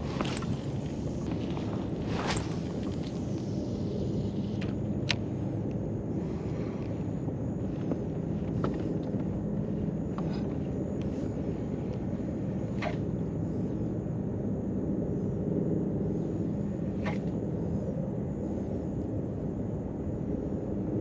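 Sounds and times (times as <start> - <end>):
faint steady hum: 0.0 - 21.0
wind on open water: 0.0 - 21.0.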